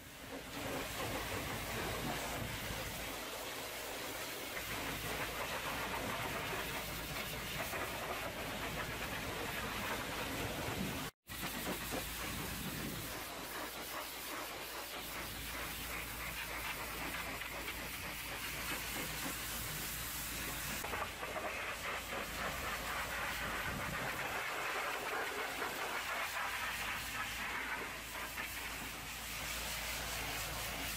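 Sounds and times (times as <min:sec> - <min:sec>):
pressure washer spray hissing: 0:00.0 - 0:30.9.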